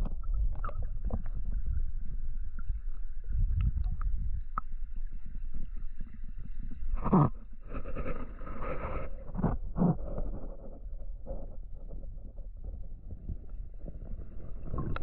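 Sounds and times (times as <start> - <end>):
underwater river rumble: 0.0 - 15.0.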